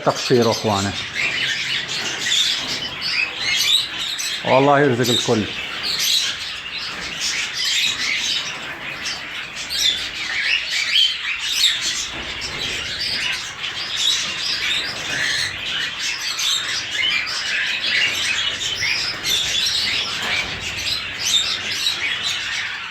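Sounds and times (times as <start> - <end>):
cockatiels chirping: 0.2 - 22.9.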